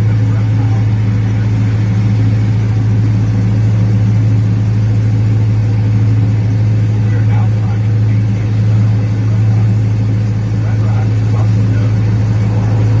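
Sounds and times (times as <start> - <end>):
train engine drone: 0.0 - 13.0.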